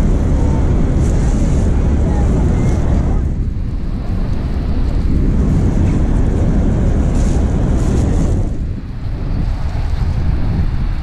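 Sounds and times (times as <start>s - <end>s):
boat engine noise: 0.0s - 11.0s
churning water: 0.0s - 11.0s
wind buffeting microphone: 0.0s - 11.0s.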